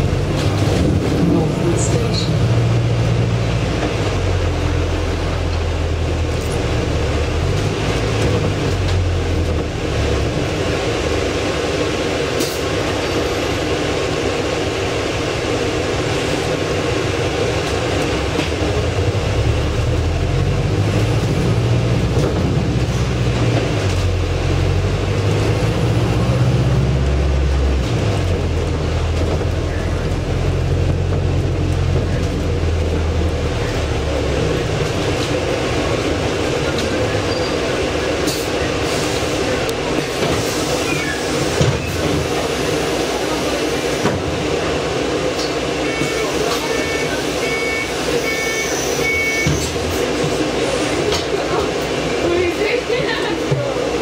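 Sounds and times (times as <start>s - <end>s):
bus drivetrain drone: 0.0s - 54.0s
road noise: 0.0s - 54.0s.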